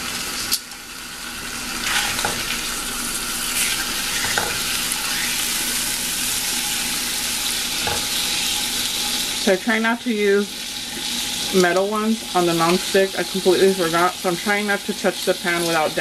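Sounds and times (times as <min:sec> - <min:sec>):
hot dogs sizzling in a pan: 0:00.0 - 0:16.0.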